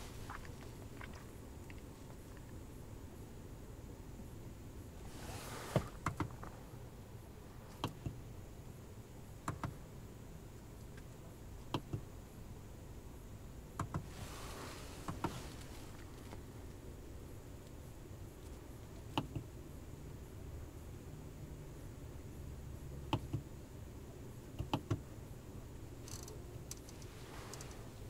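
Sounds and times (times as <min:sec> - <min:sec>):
low steady car cabin hum: 0:00.0 - 0:28.0.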